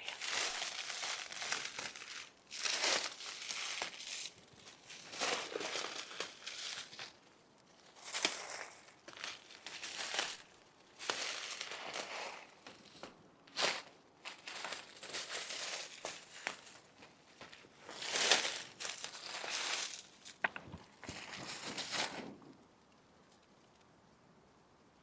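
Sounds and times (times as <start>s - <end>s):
footsteps in dry leaves: 0.0s - 20.4s, 21.0s - 22.4s.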